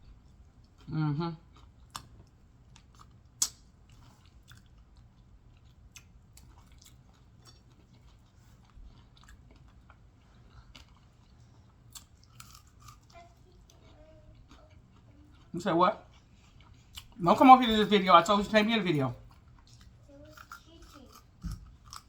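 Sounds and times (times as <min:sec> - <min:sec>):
person chewing crunchy food: 0:00.0 - 0:17.3, 0:19.2 - 0:22.0.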